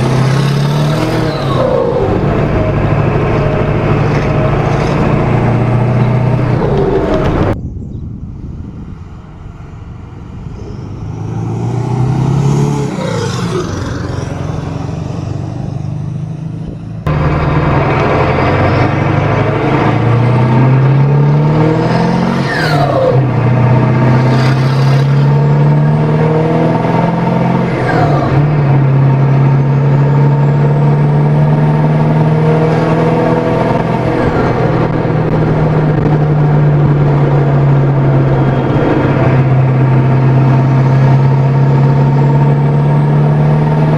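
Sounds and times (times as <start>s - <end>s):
diesel engine revving: 0.0s - 7.6s, 8.5s - 43.9s.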